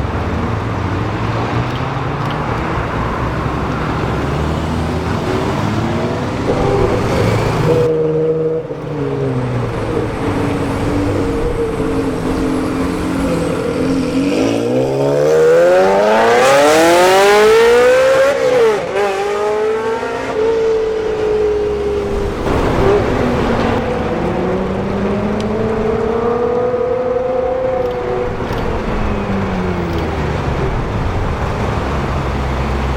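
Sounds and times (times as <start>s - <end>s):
car engine accelerating hard: 0.0s - 32.9s.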